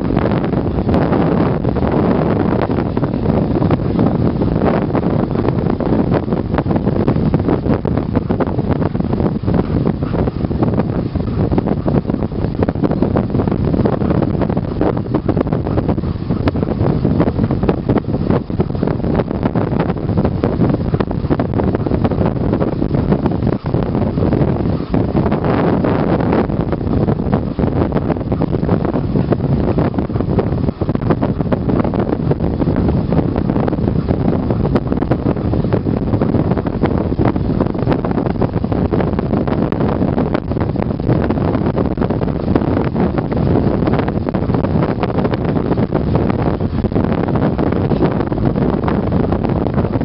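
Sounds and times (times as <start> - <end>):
atv engine rumble and rattle: 0.0 - 50.0
wind buffeting microphone: 0.0 - 50.0.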